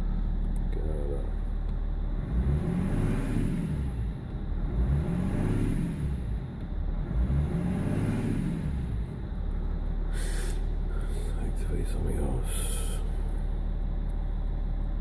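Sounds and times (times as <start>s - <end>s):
diesel engine running unevenly: 0.0s - 15.0s.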